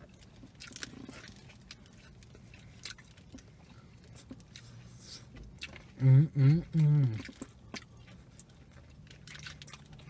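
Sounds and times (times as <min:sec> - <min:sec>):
people chewing: 0:00.0 - 0:10.0.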